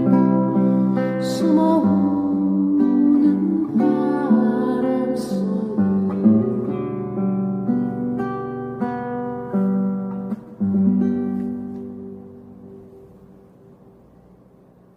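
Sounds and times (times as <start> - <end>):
acoustic guitar playing: 0.0 - 14.9.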